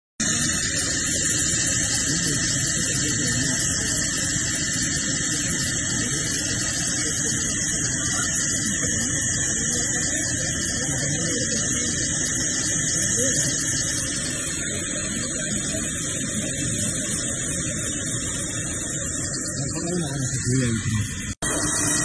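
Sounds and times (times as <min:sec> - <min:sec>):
aircraft turbine whine: 0:00.2 - 0:22.0.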